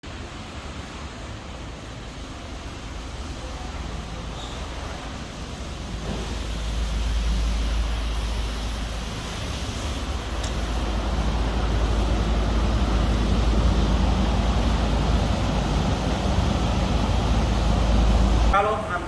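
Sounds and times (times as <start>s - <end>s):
rushing noise with low rumble: 0.0s - 19.0s.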